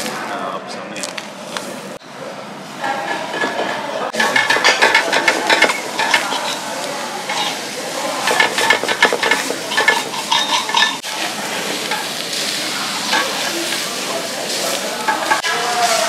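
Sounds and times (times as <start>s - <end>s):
steak sizzling on hot stone: 2.8s - 16.0s.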